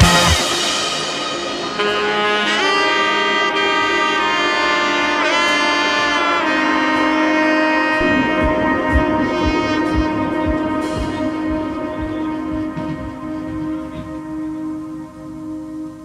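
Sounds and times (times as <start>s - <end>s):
wind instrument melody: 0.0s - 16.0s.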